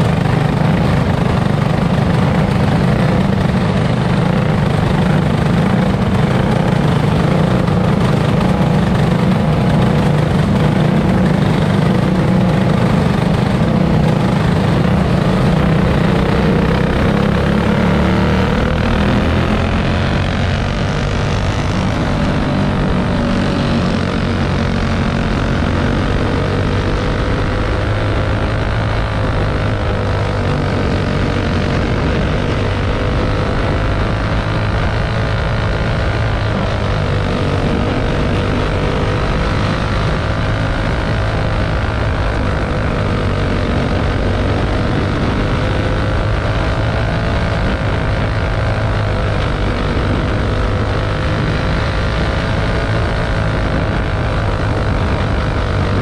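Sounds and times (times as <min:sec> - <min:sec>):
buggy engine running hard: 0:00.0 - 0:56.0.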